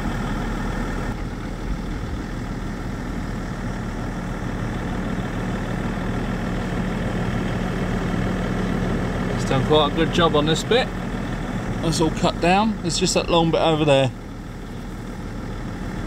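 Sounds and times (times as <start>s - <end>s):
car engine low hum: 0.0s - 16.0s.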